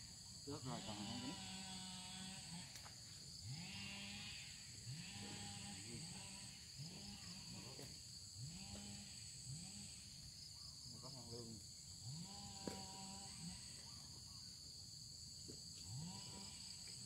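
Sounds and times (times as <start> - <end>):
night insects trilling: 0.0 - 17.0
frogs calling: 0.5 - 14.7.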